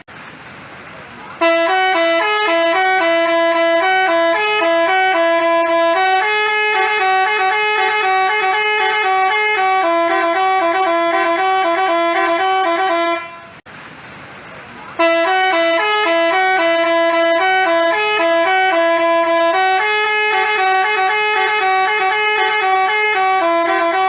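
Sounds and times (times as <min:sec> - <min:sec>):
bus horn playing a tune: 0:01.4 - 0:13.6, 0:15.0 - 0:24.0.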